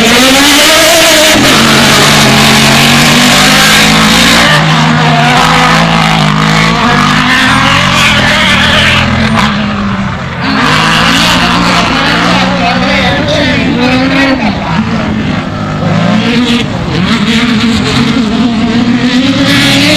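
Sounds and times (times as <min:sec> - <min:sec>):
race car engines running loud: 0:00.0 - 0:19.9.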